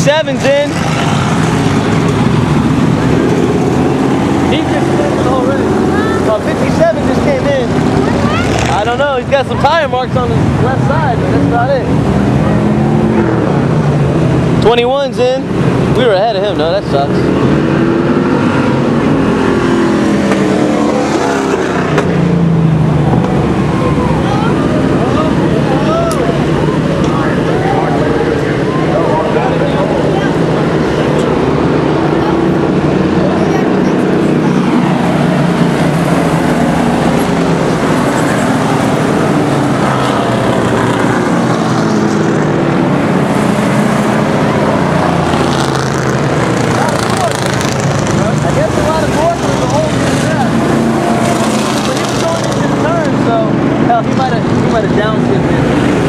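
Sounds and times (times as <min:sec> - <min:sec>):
race car engines running: 0:00.0 - 0:56.0.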